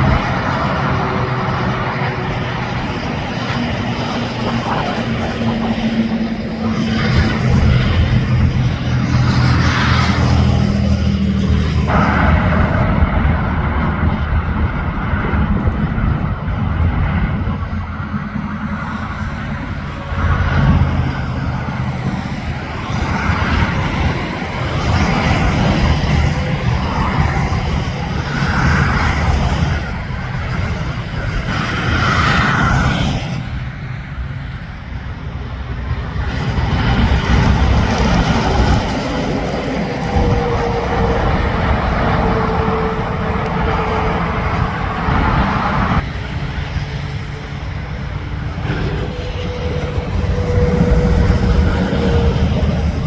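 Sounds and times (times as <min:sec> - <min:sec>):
truck engine rumble: 0:00.0 - 0:53.0.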